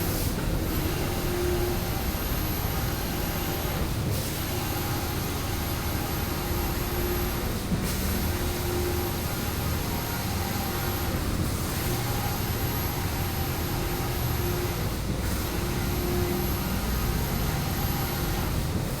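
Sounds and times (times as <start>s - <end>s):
air conditioner unit humming: 0.0s - 19.0s.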